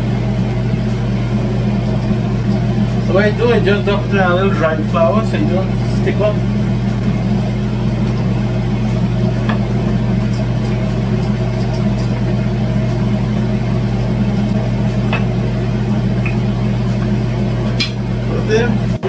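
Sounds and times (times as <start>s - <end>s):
appliance motor hum: 0.0s - 19.0s.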